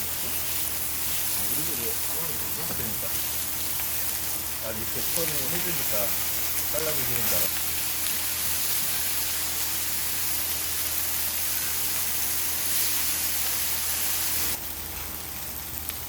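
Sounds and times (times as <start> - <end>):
pork sizzling on a griddle: 0.0 - 16.0.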